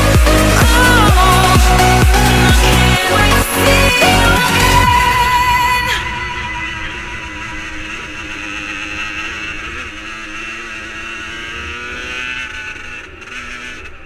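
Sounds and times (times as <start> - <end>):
two-stroke engines revving high: 0.0 - 5.1, 6.9 - 14.0.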